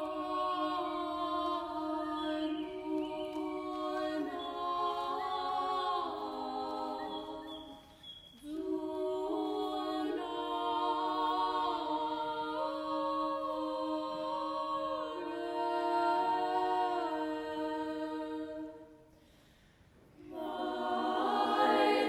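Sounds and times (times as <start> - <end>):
women singing in harmony: 0.0 - 19.0, 20.2 - 22.0.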